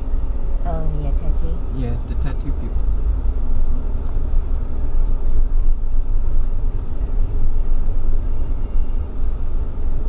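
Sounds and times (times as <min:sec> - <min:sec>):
vehicle cabin road and engine rumble: 0:00.0 - 0:10.0.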